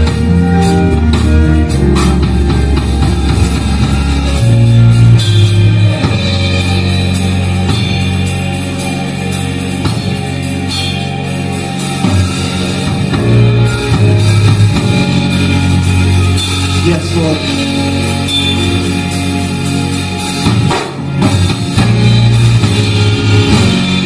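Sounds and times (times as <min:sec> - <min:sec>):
bass notes: 0:00.0 - 0:24.0
drum kit with cymbals: 0:00.0 - 0:24.0
electric guitar: 0:00.0 - 0:24.0
keyboard chords: 0:00.0 - 0:24.0.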